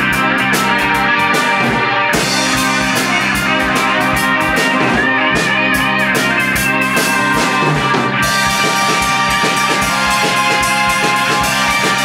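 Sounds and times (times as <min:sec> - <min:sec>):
bass guitar: 0:00.0 - 0:12.0
drum kit with cymbals: 0:00.0 - 0:12.0
electric guitar: 0:00.0 - 0:12.0.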